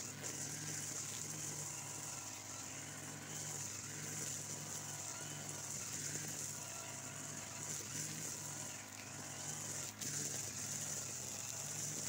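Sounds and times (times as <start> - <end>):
brush cutter engine: 0.0 - 12.0
trimmer line whirring hiss: 0.0 - 12.0.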